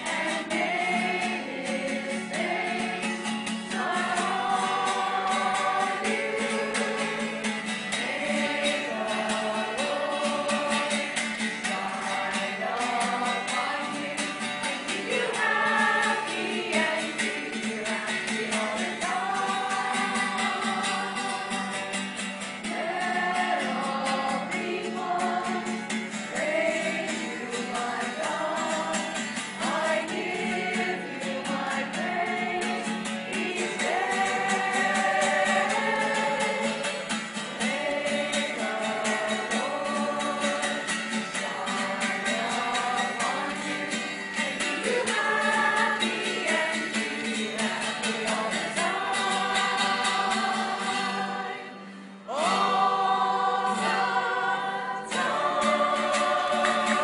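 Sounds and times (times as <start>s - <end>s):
women's choir singing a hymn: 0.0s - 57.0s.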